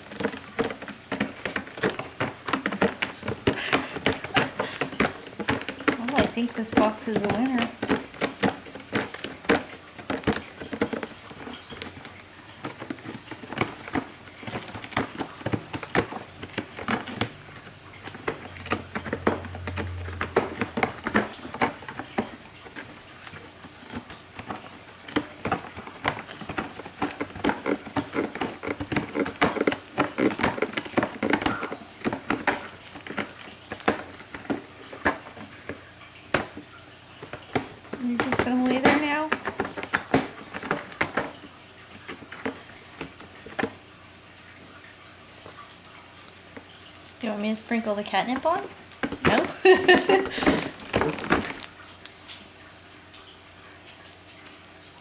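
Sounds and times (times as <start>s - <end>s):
cat rummaging in cardboard box: 0.0s - 52.8s.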